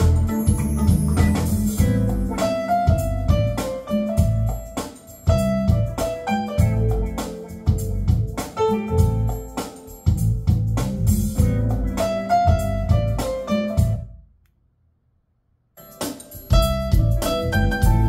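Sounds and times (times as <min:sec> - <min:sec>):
smooth jazz with electric piano: 0:00.0 - 0:14.1, 0:15.8 - 0:18.0.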